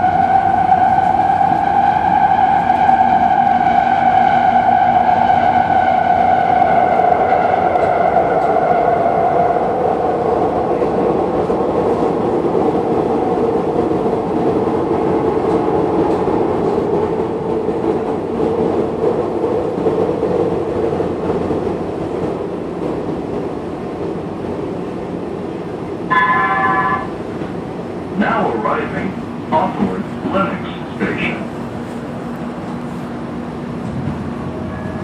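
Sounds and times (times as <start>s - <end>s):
train wheels and motors rumbling: 0.0s - 35.0s.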